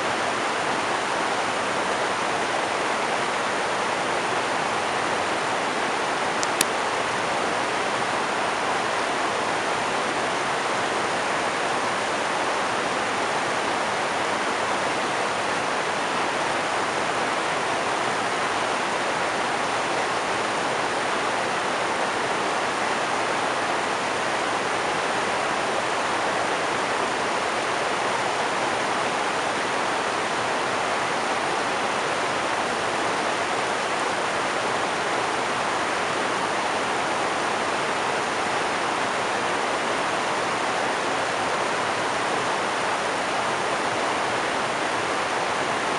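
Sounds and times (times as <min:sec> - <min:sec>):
river rapids rushing over rocks: 0:00.0 - 0:45.9.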